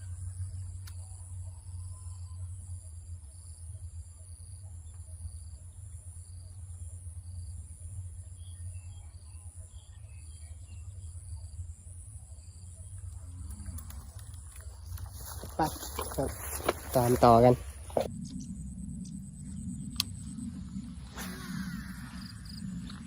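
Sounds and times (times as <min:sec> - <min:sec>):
constant low rumble: 0:00.0 - 0:23.0
insects trilling: 0:00.0 - 0:23.0.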